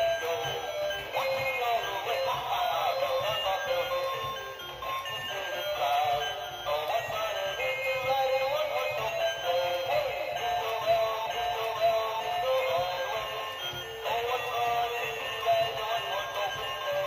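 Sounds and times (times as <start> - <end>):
toy playing song through small speaker: 0.0 - 17.0.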